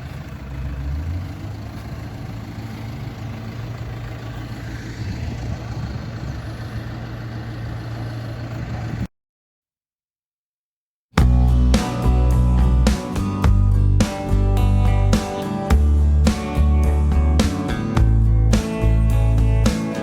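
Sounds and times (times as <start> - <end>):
diesel engine running: 0.0 - 9.1, 11.2 - 20.0.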